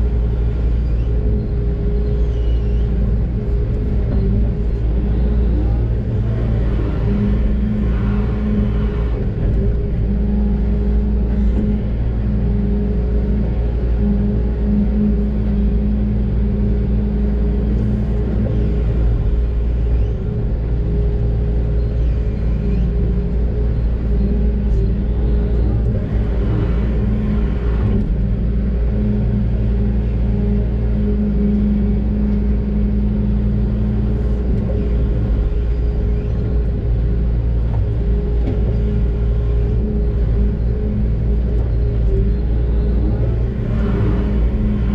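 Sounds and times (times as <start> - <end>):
excavator diesel engine rumbling: 0.0 - 44.9
steady hum: 0.0 - 44.9.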